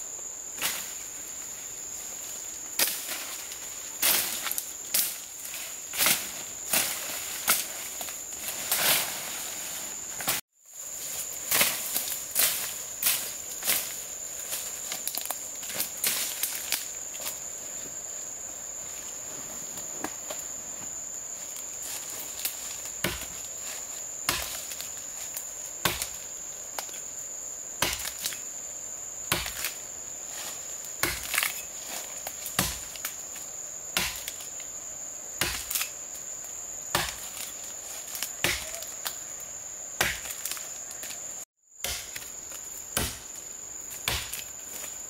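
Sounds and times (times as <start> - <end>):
insect drone: 0.0 - 45.0.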